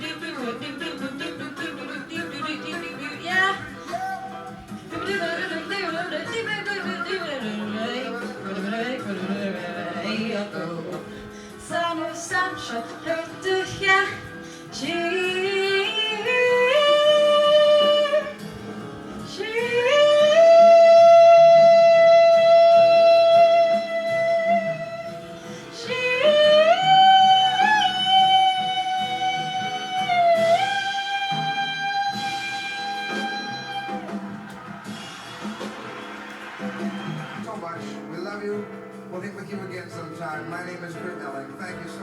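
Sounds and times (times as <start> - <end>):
person singing wordless jazz: 0.0 - 34.0
quiet instrumental accompaniment: 0.0 - 42.0.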